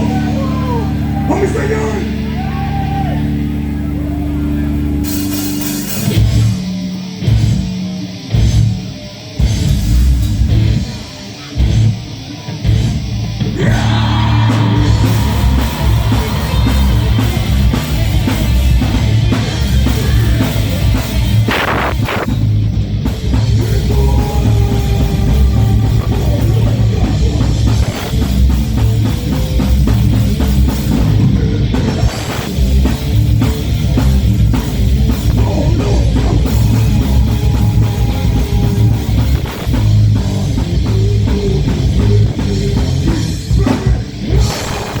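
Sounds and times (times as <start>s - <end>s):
heavy metal band playing: 0.0s - 45.0s.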